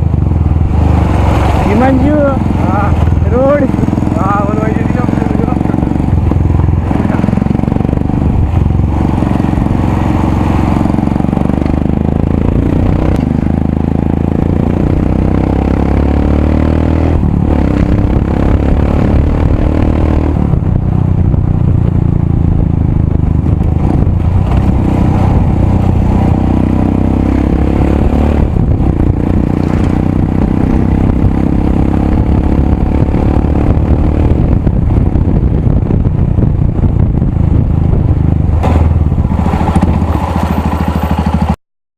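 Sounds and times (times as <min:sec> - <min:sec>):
motorcycle engine revving: 0:00.0 - 0:41.6
motorcycle rattling over rough road: 0:00.0 - 0:41.6.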